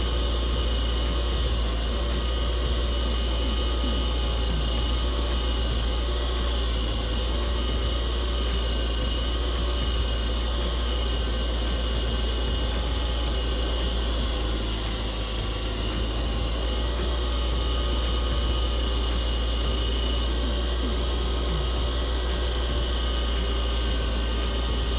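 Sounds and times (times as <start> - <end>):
wood lathe motor hum: 0.0 - 24.9.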